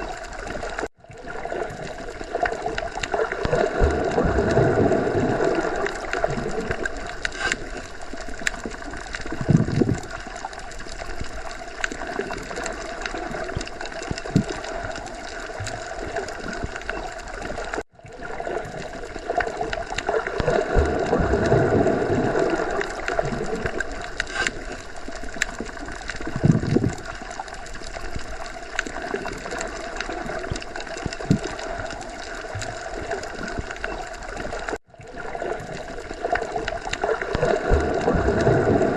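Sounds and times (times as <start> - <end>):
muffled underwater water wash: 0.0 - 38.9.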